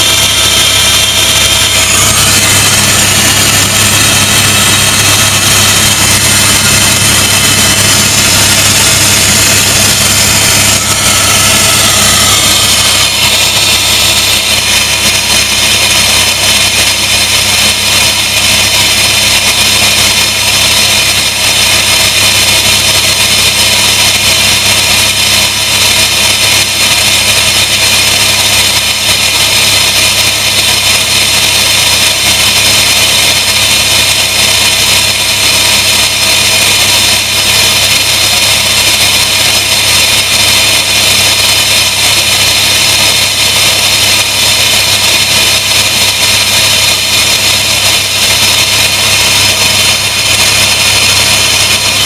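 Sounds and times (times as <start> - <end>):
helicopter engine and rotor drone: 0.0 - 52.0
high turbine whine: 0.0 - 52.0.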